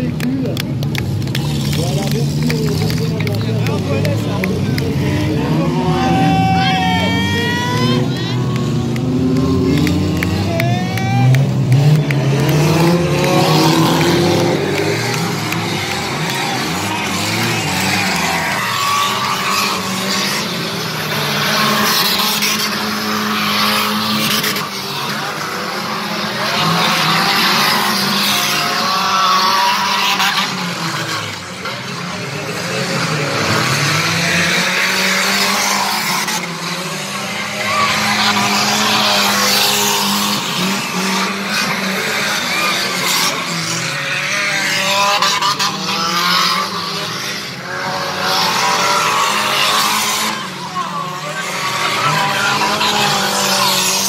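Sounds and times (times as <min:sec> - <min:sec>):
stock car engines racing: 0:00.0 - 0:54.0.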